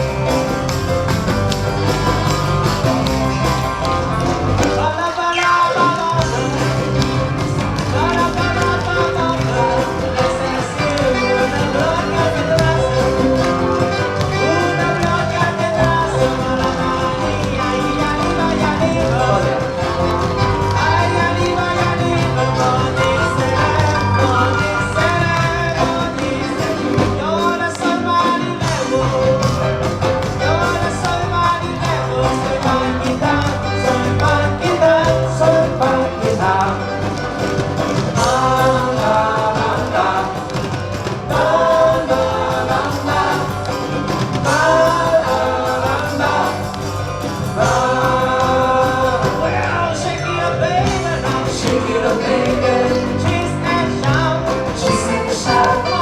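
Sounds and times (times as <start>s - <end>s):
band playing guitar-led music: 0.0s - 56.0s.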